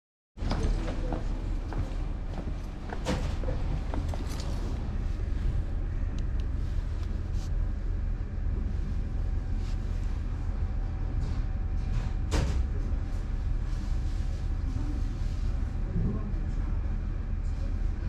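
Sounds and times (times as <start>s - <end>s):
faint hum: 0.4s - 18.0s
low background rumble: 0.4s - 18.0s.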